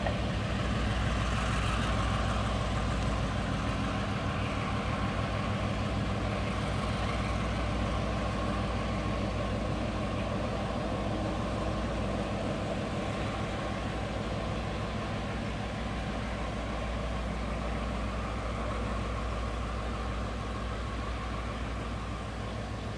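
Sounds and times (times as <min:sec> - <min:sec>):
locomotive engine droning: 0:00.0 - 0:22.9.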